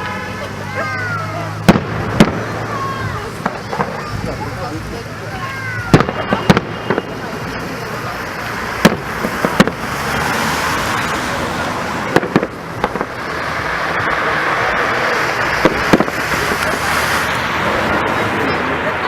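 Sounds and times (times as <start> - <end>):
firework shells bursting: 1.2 - 18.1.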